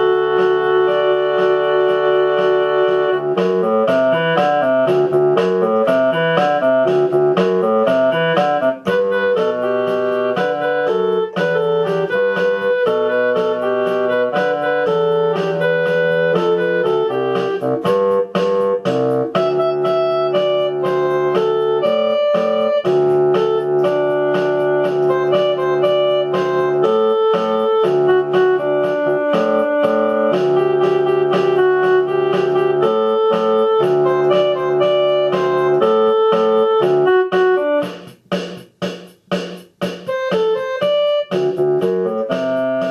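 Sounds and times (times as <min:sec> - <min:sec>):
keyboard instrumental music: 0:00.0 - 0:42.9.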